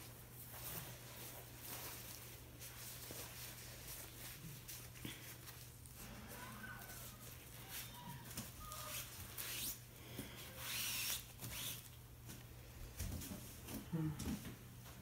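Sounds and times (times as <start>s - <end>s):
plastic gloves rustling: 0.0s - 13.8s.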